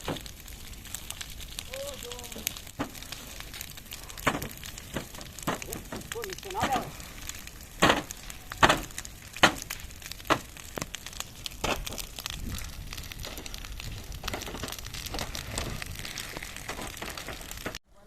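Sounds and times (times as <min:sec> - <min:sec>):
brush fire crackling: 0:00.0 - 0:18.0
sharp fire cracks: 0:00.0 - 0:18.0.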